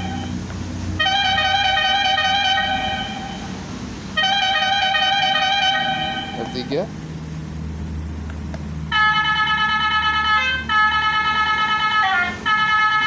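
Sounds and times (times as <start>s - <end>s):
brassy multi-note horn tune: 0.0s - 6.7s, 8.9s - 13.0s.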